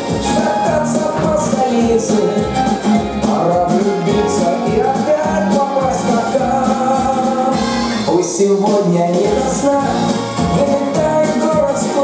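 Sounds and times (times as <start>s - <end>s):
upbeat pop song: 0.0s - 12.0s.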